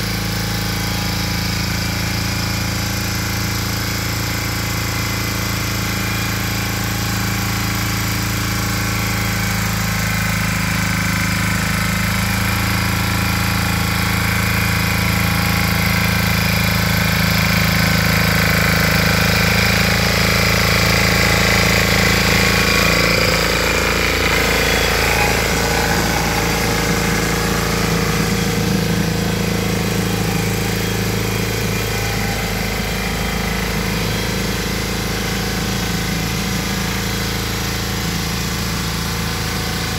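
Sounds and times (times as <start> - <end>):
tiller engine running: 0.0 - 39.9.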